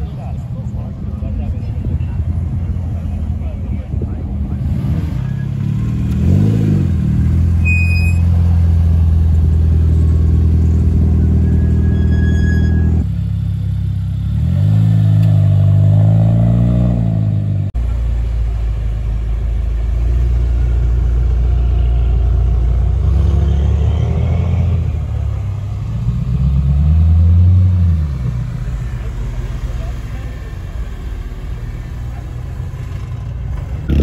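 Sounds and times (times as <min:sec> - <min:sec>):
car engines rumbling: 0:00.0 - 0:34.0.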